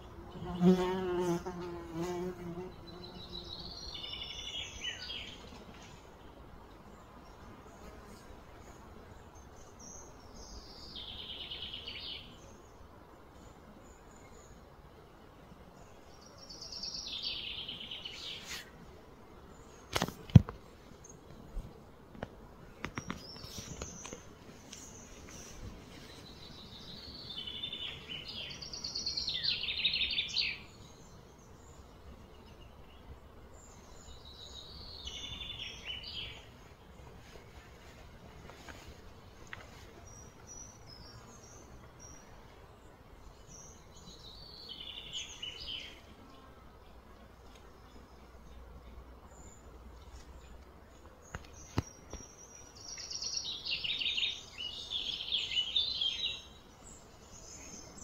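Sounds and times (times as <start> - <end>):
faint background noise: 0.0 - 58.0
low background noise: 0.0 - 58.0.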